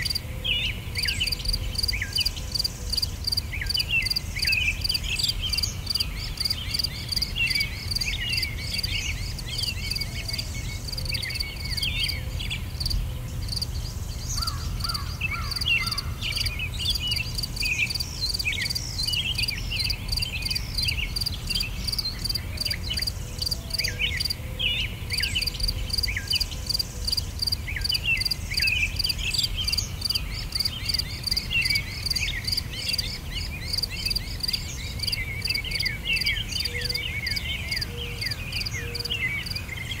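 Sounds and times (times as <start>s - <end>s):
insect chorus chirping: 0.0s - 0.2s, 1.0s - 24.4s, 25.1s - 38.8s, 39.4s - 40.0s
small birds chirping: 0.0s - 40.0s.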